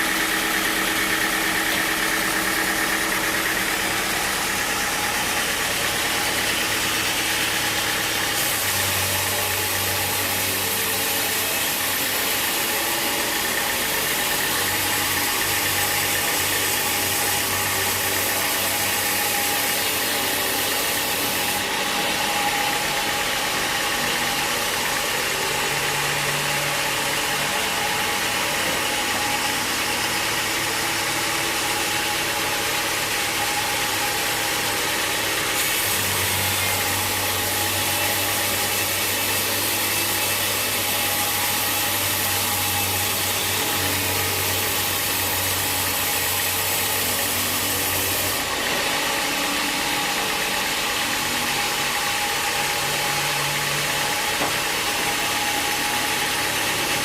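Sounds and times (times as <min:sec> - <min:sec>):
sawmill engine hum: 0:00.0 - 0:57.0.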